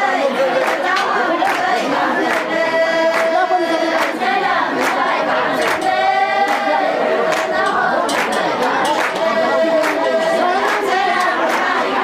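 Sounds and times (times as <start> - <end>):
rhythmic hand-clapping: 0.0 - 12.0
women singing in unison: 0.0 - 12.0.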